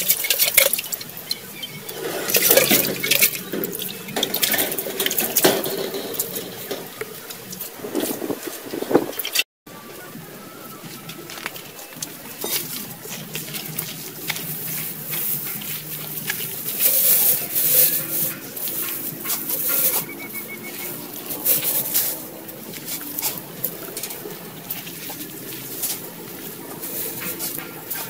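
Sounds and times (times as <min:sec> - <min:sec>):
birds calling: 0:00.0 - 0:28.0
dry grass rustling and crackling: 0:00.0 - 0:28.0.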